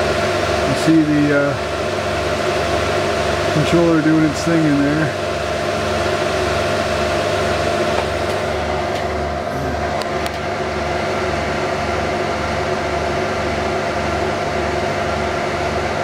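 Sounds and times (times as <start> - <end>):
low pulsing throb: 0.0 - 16.0
server fans and drives whirring: 0.0 - 16.0.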